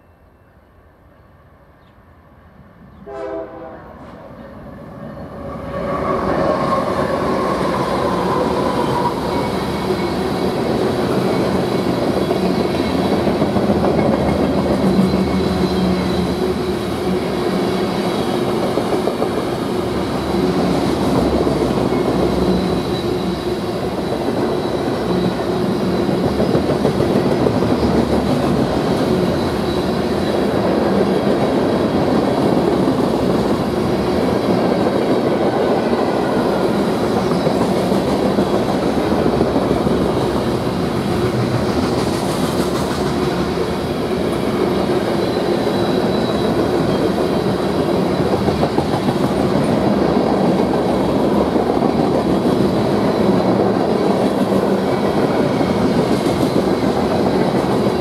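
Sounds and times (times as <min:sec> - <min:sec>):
train wheels on rails: 0:03.0 - 0:58.0.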